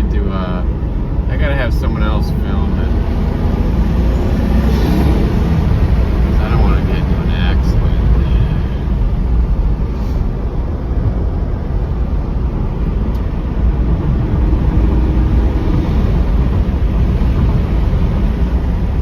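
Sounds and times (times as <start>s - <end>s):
car engine rumble inside cabin: 0.0s - 19.0s
road noise: 0.0s - 19.0s.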